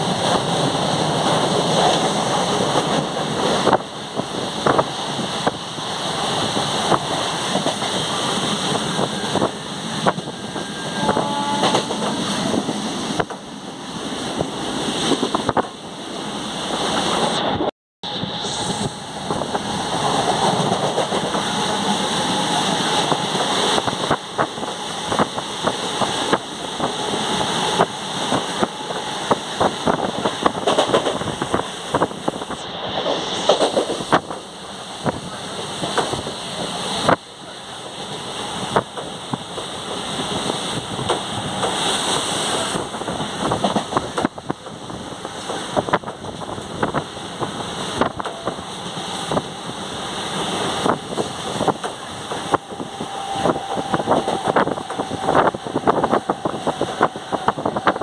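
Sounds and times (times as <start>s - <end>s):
wind rush and rolling noise: 0.0s - 58.0s.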